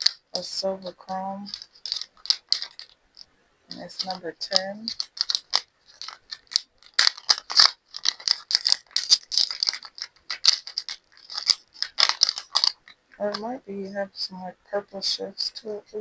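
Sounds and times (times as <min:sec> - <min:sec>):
small jar rattling: 0:00.0 - 0:13.5.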